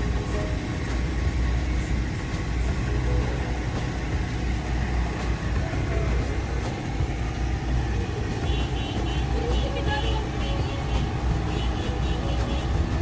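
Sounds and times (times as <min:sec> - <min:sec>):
street traffic: 0:00.0 - 0:13.0
vehicle engines idling: 0:00.0 - 0:13.0.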